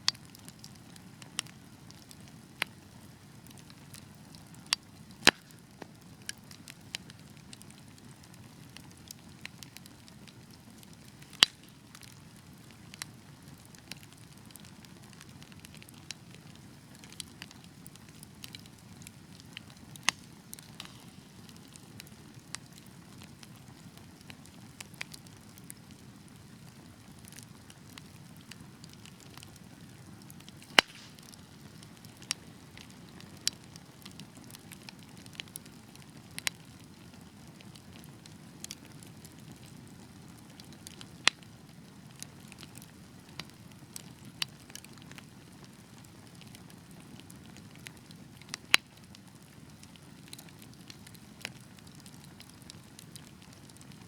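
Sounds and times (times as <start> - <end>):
wood crackling and popping: 0.0 - 54.0
flame rumble: 0.2 - 54.0.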